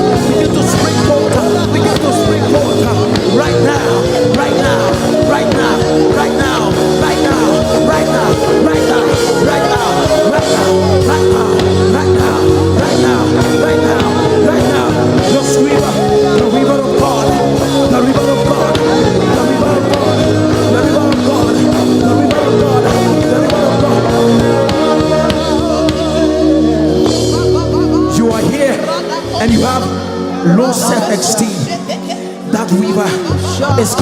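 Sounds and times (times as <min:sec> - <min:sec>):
person singing: 0:00.0 - 0:34.0
worship music chords: 0:00.0 - 0:34.0.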